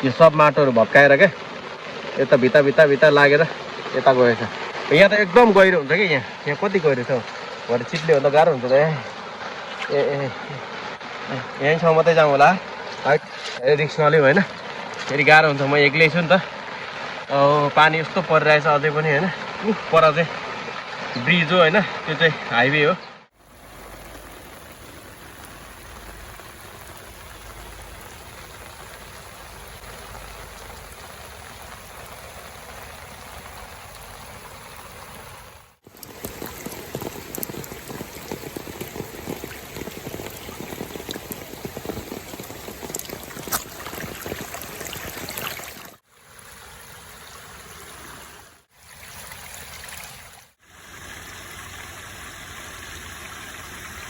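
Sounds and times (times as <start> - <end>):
raindrops crackling on a surface: 0.0 - 22.4, 23.3 - 46.8
rain falling: 0.0 - 22.7, 23.3 - 54.0.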